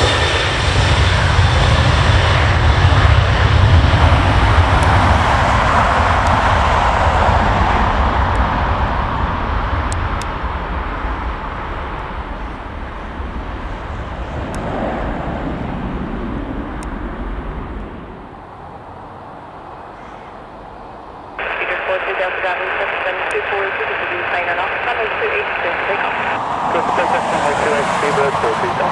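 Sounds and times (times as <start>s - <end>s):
jet airliner engine noise: 0.0s - 28.9s.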